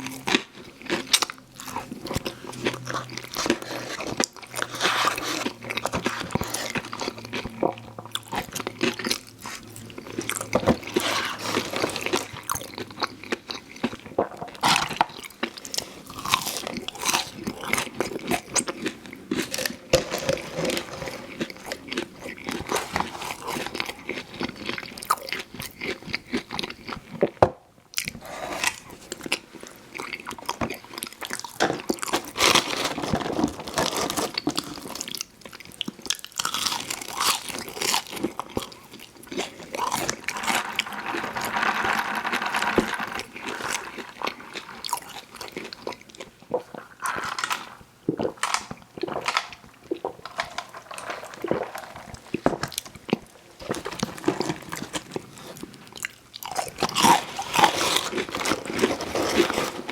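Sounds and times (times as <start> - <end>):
crunchy food chewing: 0.0 - 59.9.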